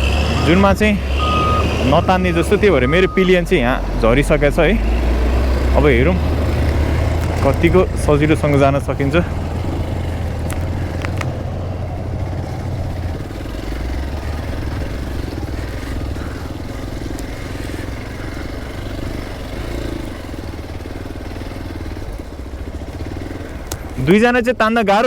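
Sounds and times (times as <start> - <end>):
motorcycle engine pulling under load: 0.0 - 25.0.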